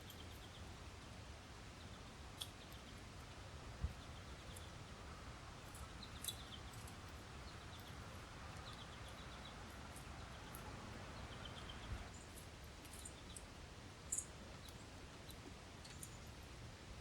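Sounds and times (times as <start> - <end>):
small birds chipping: 0.0 - 17.0.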